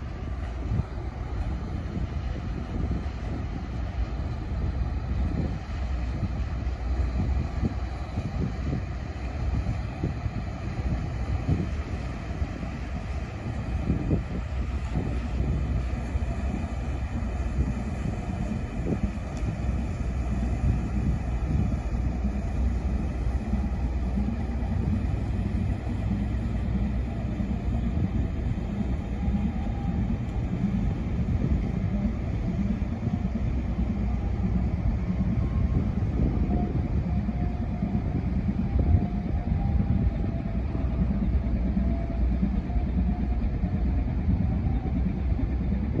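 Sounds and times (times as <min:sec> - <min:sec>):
faint steady hum: 0:00.0 - 0:46.0
ship diesel engine drone: 0:00.0 - 0:46.0.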